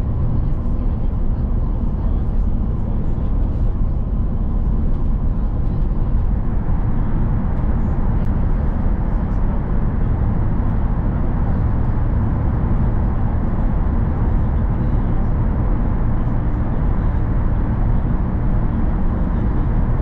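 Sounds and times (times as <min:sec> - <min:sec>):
bus engine and tyres rumbling: 0:00.0 - 0:20.0.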